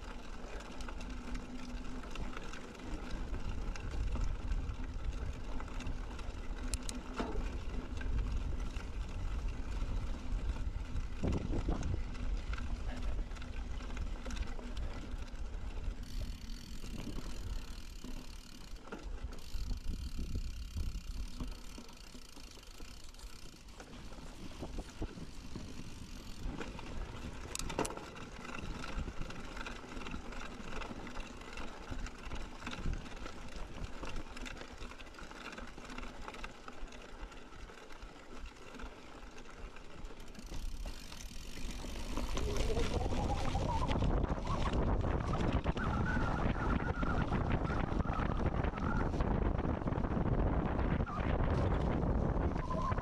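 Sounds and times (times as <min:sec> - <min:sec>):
bike rattles and knocks: 0:00.0 - 0:53.0
bike tyres rolling: 0:00.0 - 0:53.0.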